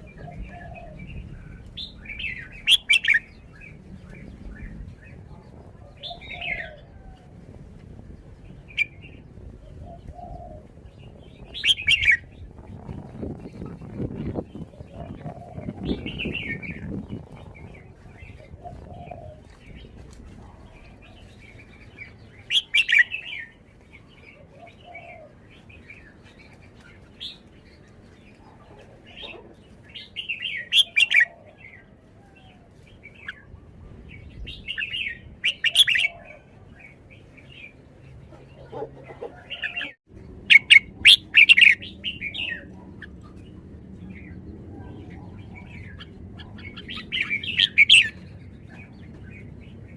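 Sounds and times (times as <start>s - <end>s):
bird singing warbled phrases: 0.0s - 7.0s, 8.6s - 49.9s.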